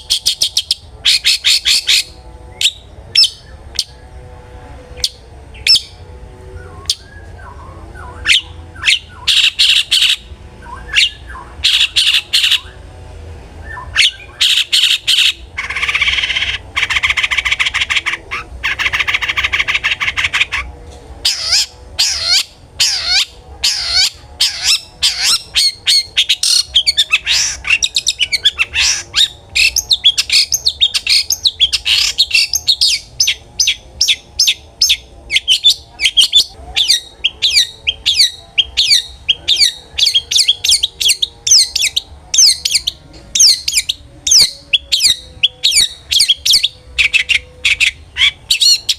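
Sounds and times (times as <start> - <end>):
shrike singing: 0.0 - 4.3, 13.6 - 48.9.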